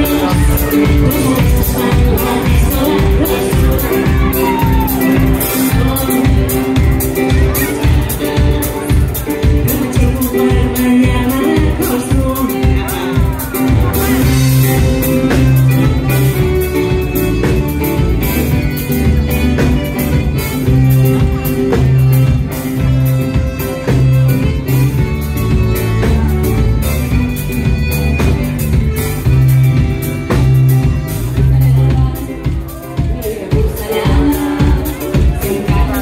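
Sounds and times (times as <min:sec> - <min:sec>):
bass line: 0:00.0 - 0:36.0
drum beat: 0:00.0 - 0:36.0
guitar: 0:00.0 - 0:36.0.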